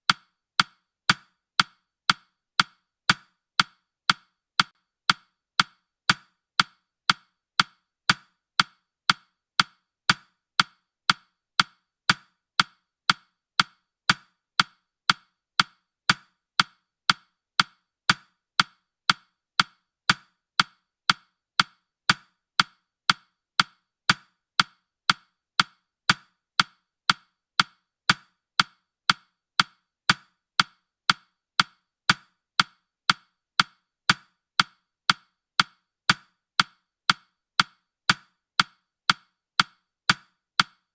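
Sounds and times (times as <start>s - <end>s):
timer ticking woody clicks: 0.0s - 40.9s.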